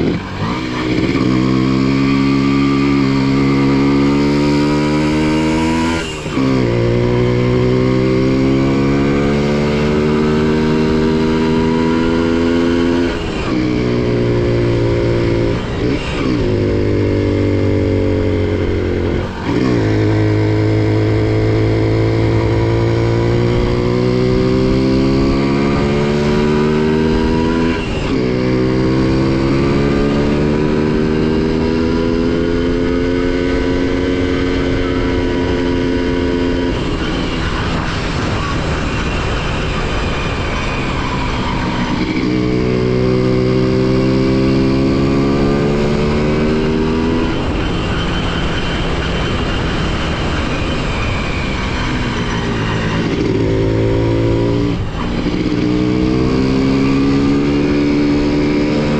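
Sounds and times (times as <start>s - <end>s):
motorcycle engine under throttle: 0.0s - 58.9s.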